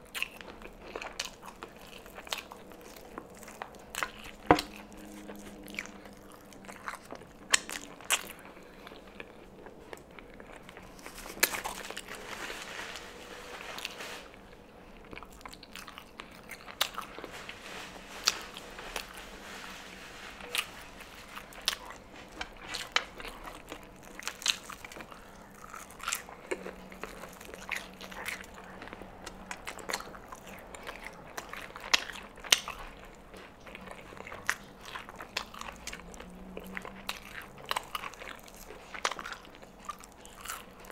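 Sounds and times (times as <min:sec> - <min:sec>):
wet chewing: 0:00.0 - 0:12.4, 0:14.0 - 0:40.9
crunching fried chicken: 0:00.0 - 0:40.9.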